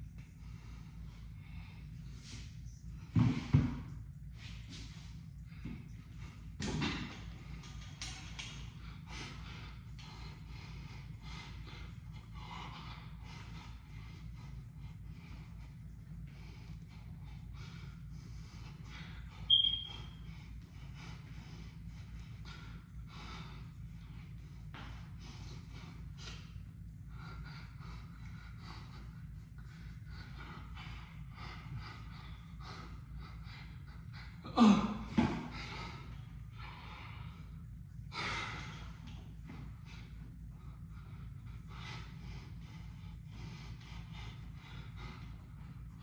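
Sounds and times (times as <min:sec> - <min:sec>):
man breathing heavily: 0:00.0 - 0:46.0
steady low hum: 0:00.0 - 0:46.0.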